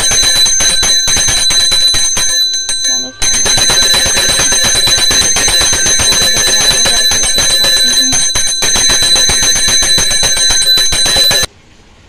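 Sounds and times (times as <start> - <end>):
hand bell ringing rapidly: 0.0 - 11.5.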